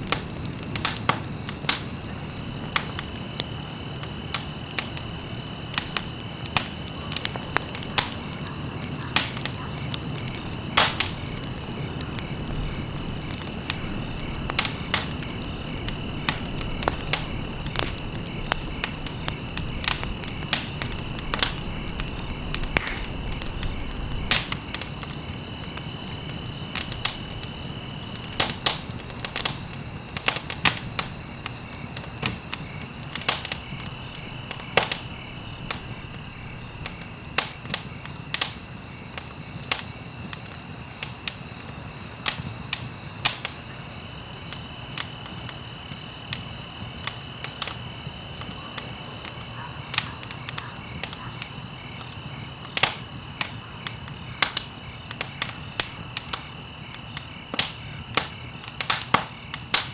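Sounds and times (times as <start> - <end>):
fire crackling and popping: 0.0 - 59.9
low rumble of flame: 0.0 - 59.9.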